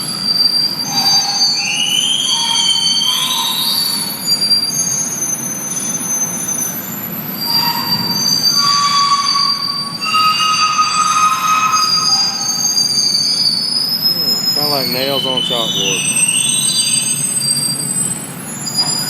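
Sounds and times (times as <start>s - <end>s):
metal cart wheels squealing: 0.0s - 19.0s.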